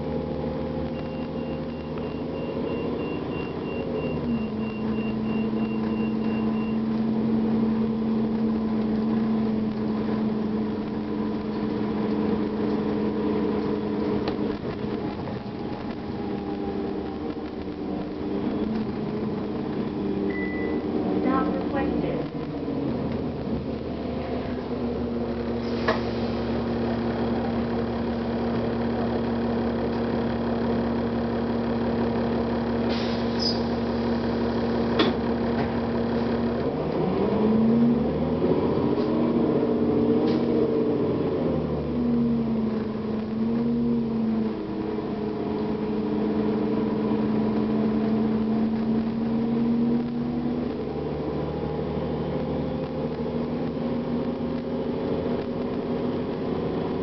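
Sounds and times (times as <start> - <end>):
bus diesel engine revving: 0.0 - 57.0.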